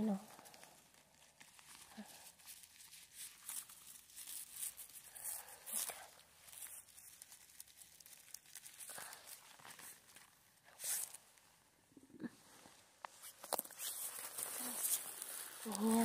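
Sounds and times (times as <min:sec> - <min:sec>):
hand rustling through dry grass: 0:00.0 - 0:11.4, 0:13.2 - 0:16.0.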